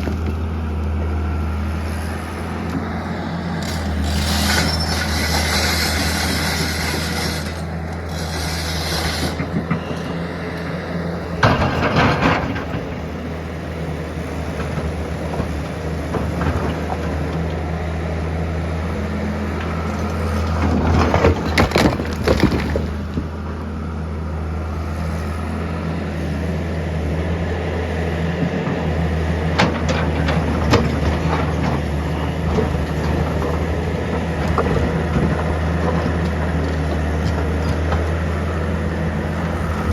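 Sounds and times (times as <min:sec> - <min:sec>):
construction machine engine running: 0:00.0 - 0:39.9.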